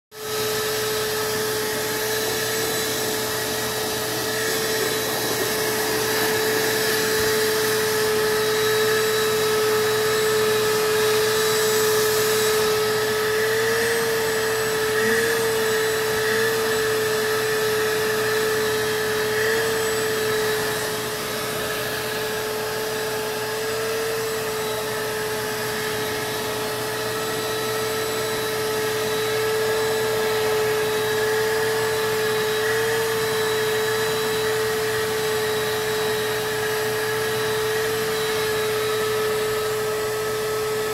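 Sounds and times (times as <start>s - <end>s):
vacuum cleaner running: 0.1s - 40.9s.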